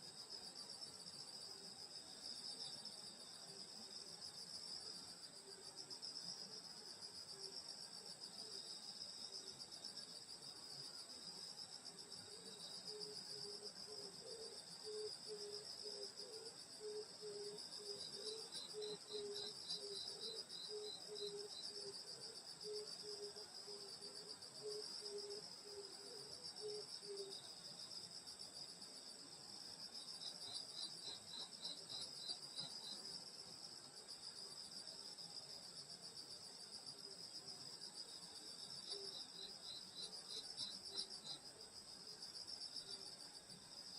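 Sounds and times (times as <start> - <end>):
low pulsing insect call: 0.0 - 43.9.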